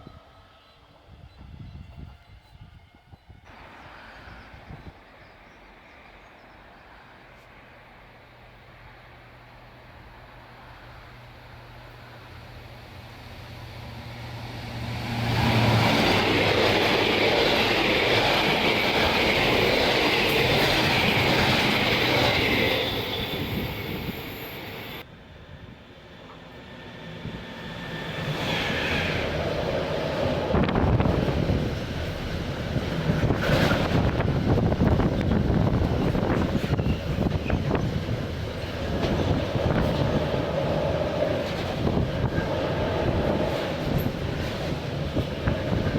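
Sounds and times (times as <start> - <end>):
train low hum: 0.0 - 45.9
train wheels rushing on rails: 5.9 - 45.9.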